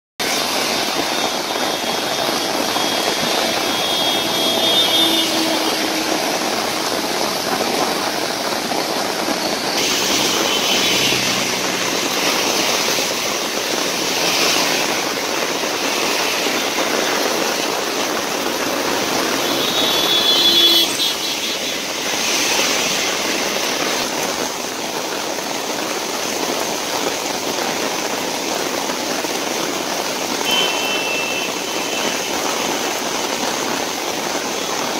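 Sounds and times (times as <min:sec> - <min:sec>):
heavy rain: 0:00.2 - 0:34.9
traffic on wet road: 0:00.2 - 0:34.9.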